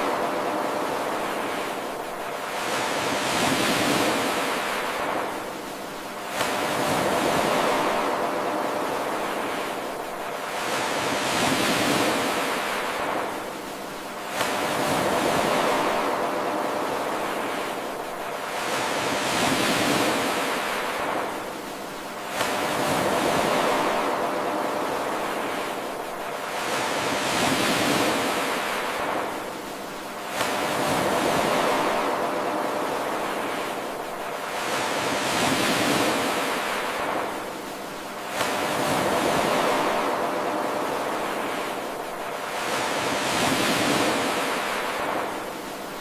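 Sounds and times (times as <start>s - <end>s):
ocean waves washing in: 0.0s - 46.0s.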